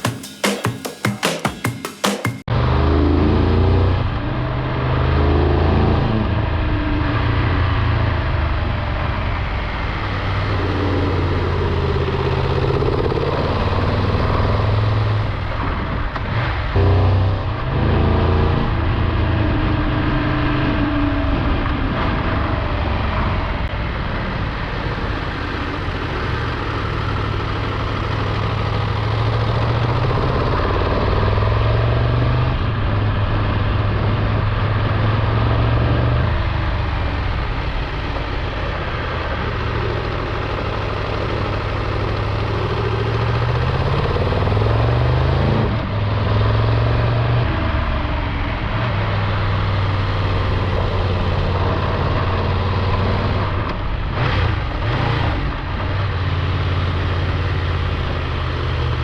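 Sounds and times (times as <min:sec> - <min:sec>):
motorcycle engine accelerating: 0:02.5 - 0:59.0.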